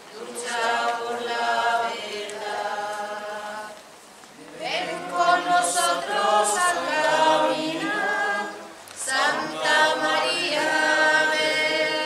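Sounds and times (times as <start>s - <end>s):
group singing a hymn: 0.0s - 12.0s.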